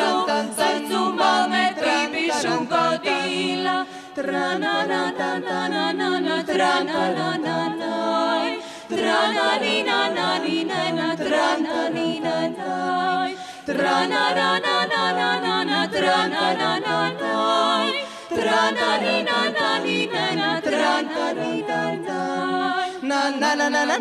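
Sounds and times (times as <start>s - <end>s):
women singing in harmony: 0.0s - 24.0s.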